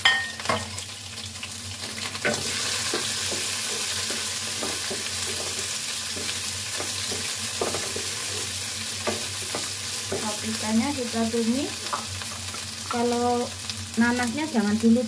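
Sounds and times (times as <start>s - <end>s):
peppers sizzling in oil: 0.0s - 15.0s.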